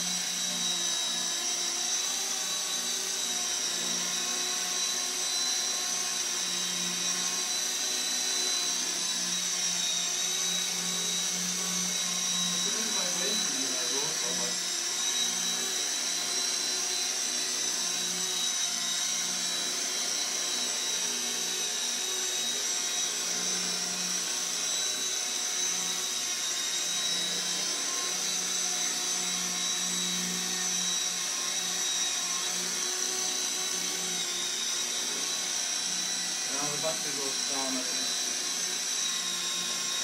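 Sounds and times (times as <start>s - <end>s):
high-pitched motor whine: 0.0s - 40.0s.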